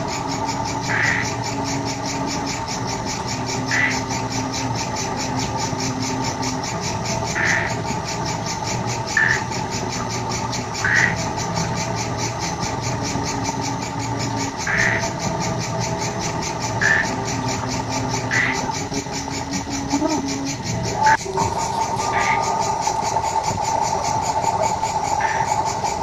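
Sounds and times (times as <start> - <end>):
film projector mechanical hum: 0.0 - 26.0.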